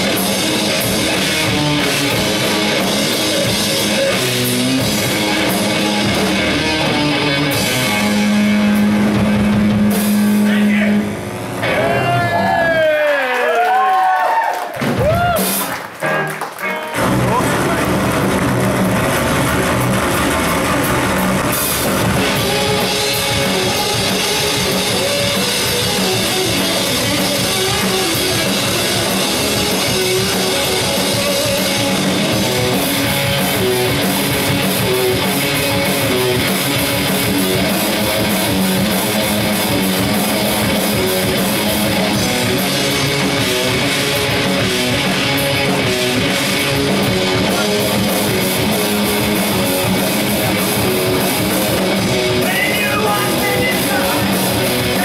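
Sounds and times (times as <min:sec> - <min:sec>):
drum kit: 0:00.0 - 0:13.0, 0:14.8 - 0:55.0
electric guitars riffing: 0:00.0 - 0:13.4, 0:14.8 - 0:55.0.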